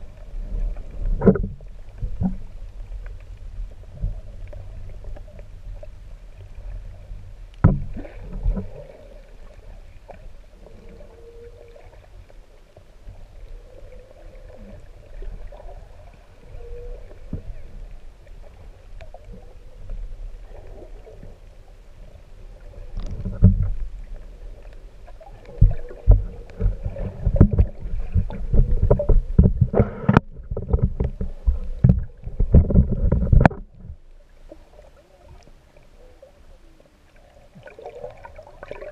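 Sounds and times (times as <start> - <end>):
low underwater rumble: 0.0 - 38.9.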